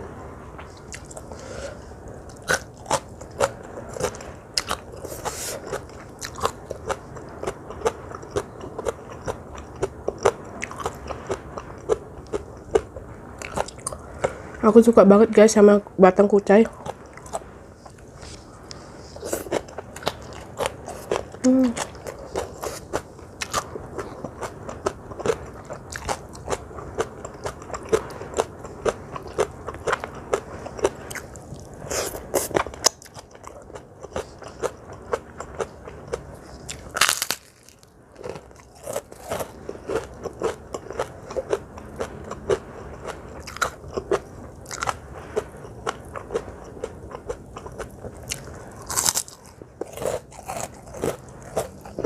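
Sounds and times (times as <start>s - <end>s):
chewing and crunching food: 0.6s - 14.6s, 16.7s - 52.0s.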